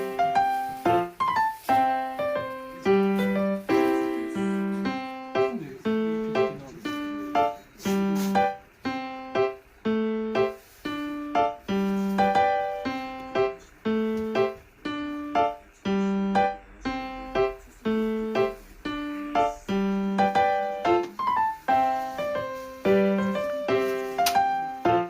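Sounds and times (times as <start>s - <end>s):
light piano melody: 0.0s - 25.0s.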